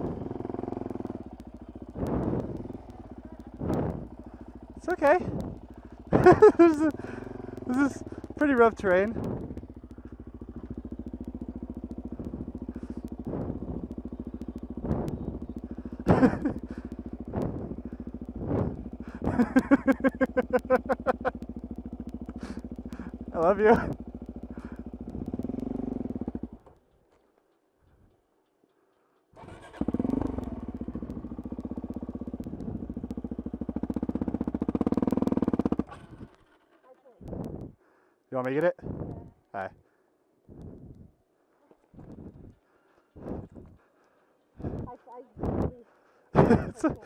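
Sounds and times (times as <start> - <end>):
motorcycle engine idling: 0.0 - 47.0.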